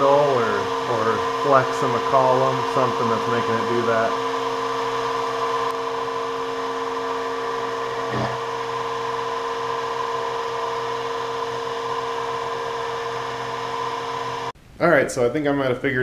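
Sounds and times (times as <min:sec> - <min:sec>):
milling machine spindle whine: 0:00.0 - 0:14.6.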